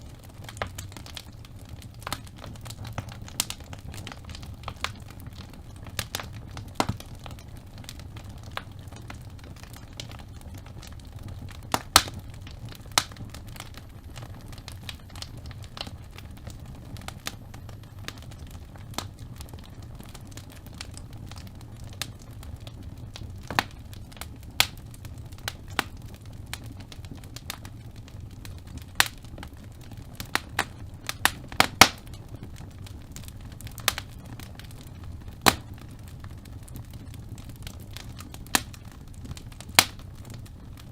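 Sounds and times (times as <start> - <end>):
rumble of fire flames: 0.0 - 40.9
wood fire crackles and pops: 0.0 - 40.9.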